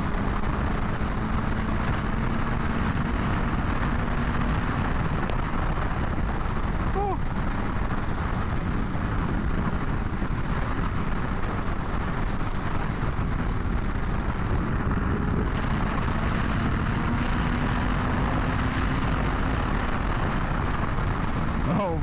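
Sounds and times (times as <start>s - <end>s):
motorcycle engine running: 0.0s - 22.0s
wind rush on microphone: 0.0s - 22.0s.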